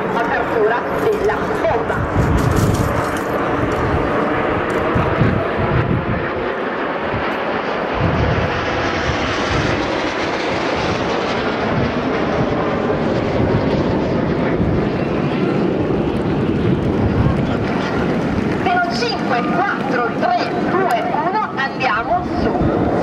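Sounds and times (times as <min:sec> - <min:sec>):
jet engines rushing: 0:00.0 - 0:23.0.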